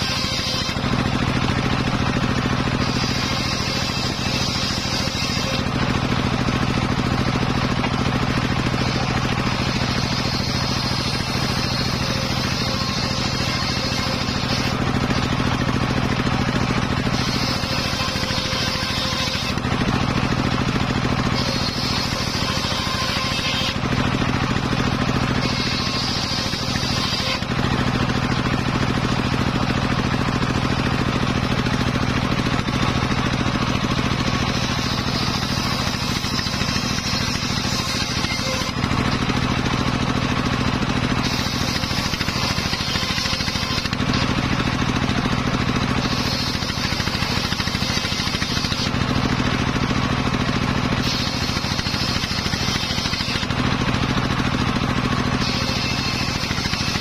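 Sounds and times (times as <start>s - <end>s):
saw blade whine: 0.0s - 57.0s
saw engine running: 0.0s - 57.0s.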